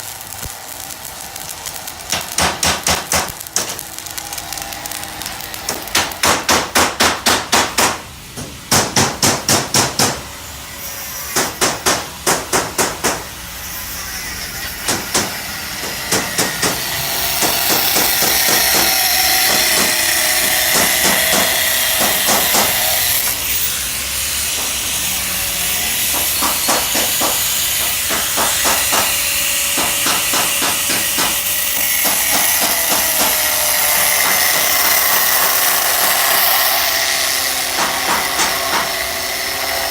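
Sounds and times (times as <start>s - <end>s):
loud steady hiss: 0.0s - 39.9s.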